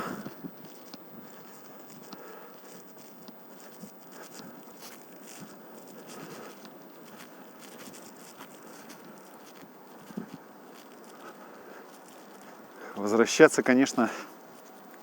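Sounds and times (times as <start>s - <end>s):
crackles: 0.0s - 15.0s.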